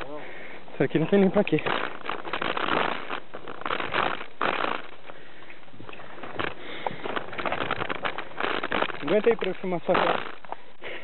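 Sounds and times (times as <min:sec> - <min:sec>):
heavy irregular breathing: 0:00.0 - 0:09.0, 0:10.2 - 0:11.0
bike clicking and rattling: 0:00.0 - 0:11.0.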